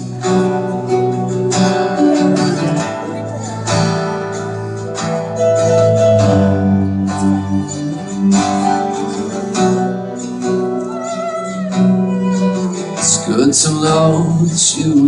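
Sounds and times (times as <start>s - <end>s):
guitar chords strummed: 0.0s - 15.0s.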